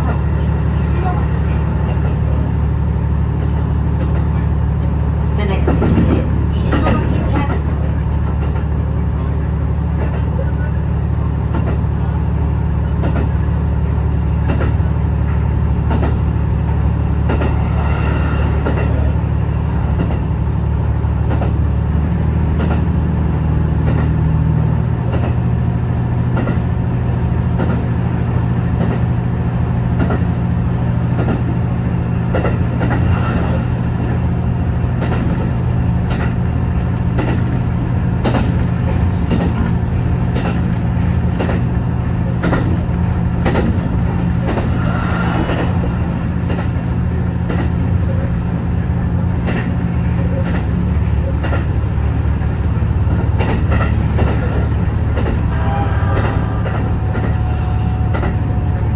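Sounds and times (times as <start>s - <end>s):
railcar engine drone: 0.0s - 58.9s.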